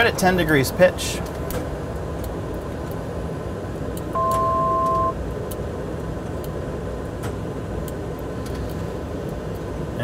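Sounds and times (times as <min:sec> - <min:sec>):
jet cockpit noise: 0:00.0 - 0:10.0.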